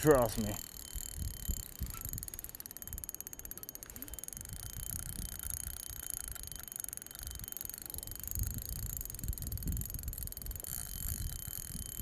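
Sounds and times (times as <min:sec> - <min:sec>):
fishing reel ticking: 0:00.0 - 0:12.0.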